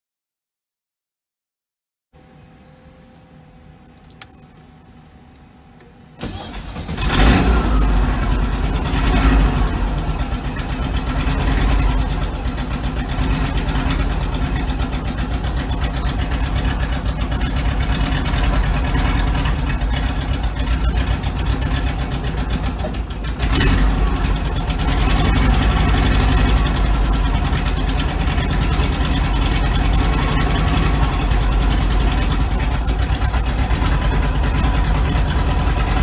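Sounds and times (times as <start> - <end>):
car engine starting and idling: 2.2 - 36.0.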